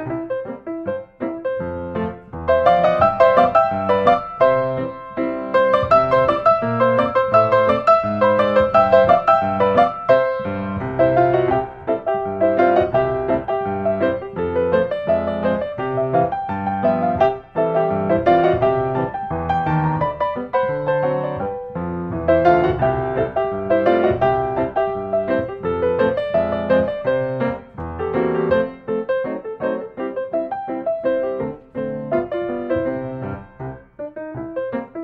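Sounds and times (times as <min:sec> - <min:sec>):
piano piece: 0:00.0 - 0:35.0.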